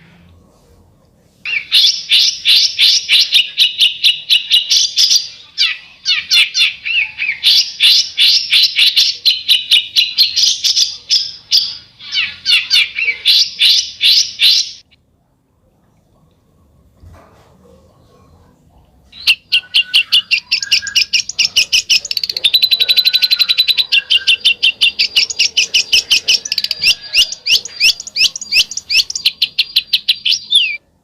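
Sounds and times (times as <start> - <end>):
songbird rasping chatter: 1.5 - 14.9, 19.1 - 30.8.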